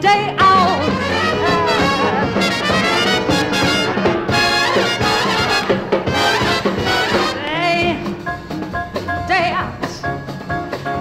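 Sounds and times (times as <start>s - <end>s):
big band brass playing swing: 0.0s - 11.0s.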